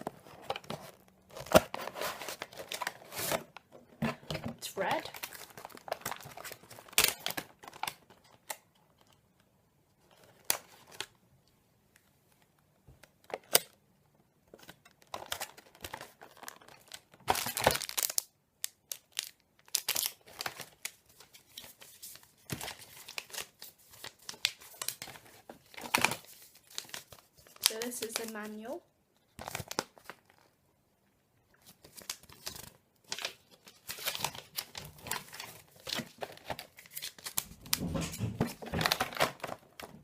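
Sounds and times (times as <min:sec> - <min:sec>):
packaging crinkling and tearing: 0:00.0 - 0:09.2, 0:10.1 - 0:11.2, 0:14.5 - 0:28.6, 0:29.3 - 0:30.6, 0:31.5 - 0:40.0.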